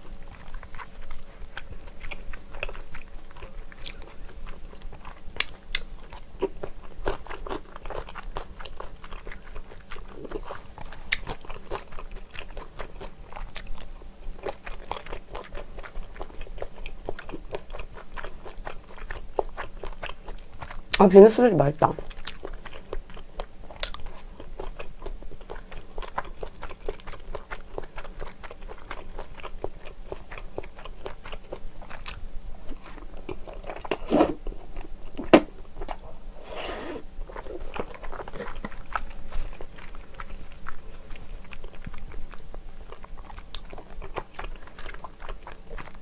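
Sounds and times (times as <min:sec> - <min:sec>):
wet chewing and smacking: 0:00.0 - 0:21.0, 0:21.9 - 0:36.2, 0:37.2 - 0:46.0.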